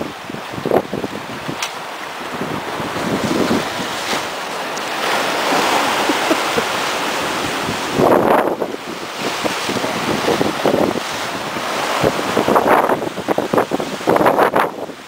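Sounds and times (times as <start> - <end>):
surf breaking on rocks: 0.0 - 15.0
wind buffeting microphone: 0.0 - 15.0.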